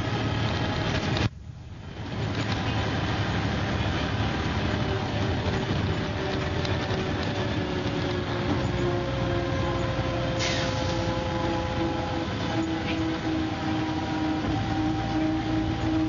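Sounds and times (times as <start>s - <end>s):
bus engine drone with whine: 0.0s - 16.0s.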